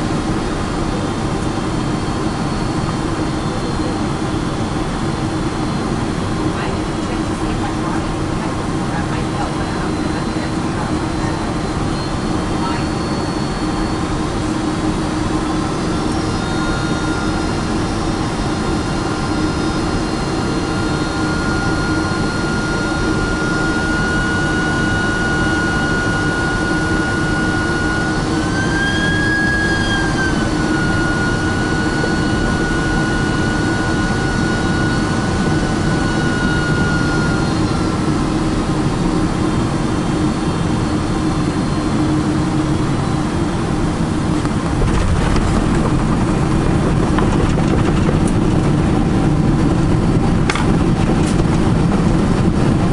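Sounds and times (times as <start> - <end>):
engine fan whine: 0.0 - 52.9
jet engine noise in cabin: 0.0 - 52.9.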